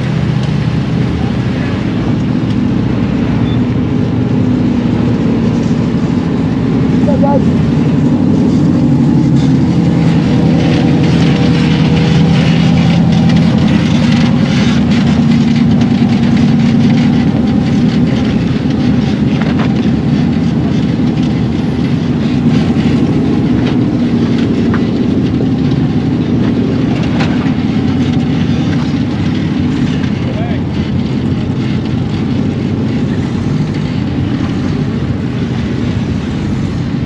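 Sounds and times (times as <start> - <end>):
off-road vehicle engine running: 0.0 - 37.0.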